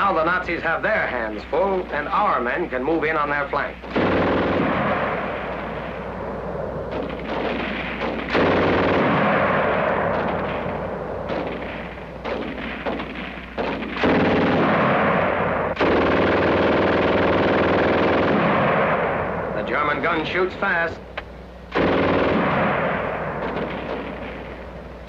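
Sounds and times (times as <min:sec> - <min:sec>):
rifle and machine-gun fire: 0:00.0 - 0:06.2, 0:06.9 - 0:20.4, 0:21.7 - 0:24.9
heavy blasts: 0:00.0 - 0:21.0, 0:21.7 - 0:25.0.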